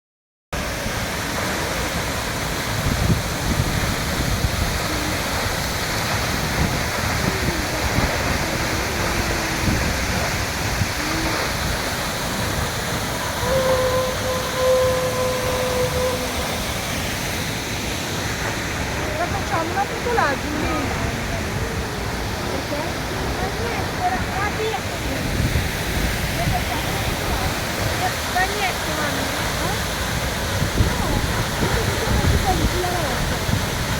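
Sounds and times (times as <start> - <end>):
waterfall rushing: 0.6 - 33.9.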